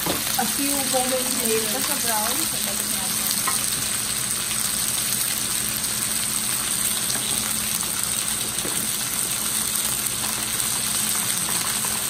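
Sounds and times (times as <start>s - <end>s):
chicken sizzling in frying pan: 0.0s - 12.0s.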